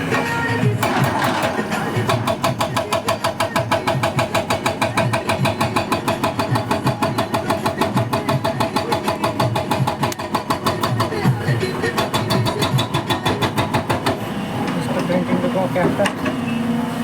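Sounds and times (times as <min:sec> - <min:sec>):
excavator engine: 0:00.0 - 0:17.0
hydraulic breaker hammering stone: 0:00.1 - 0:14.3.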